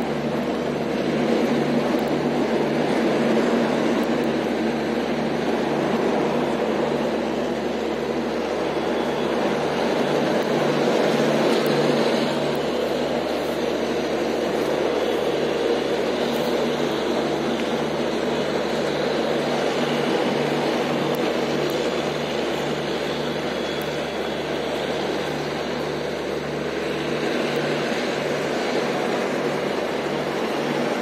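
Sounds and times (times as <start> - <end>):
pulsing low hum: 0.0 - 31.0
train rumbling on track: 0.0 - 31.0.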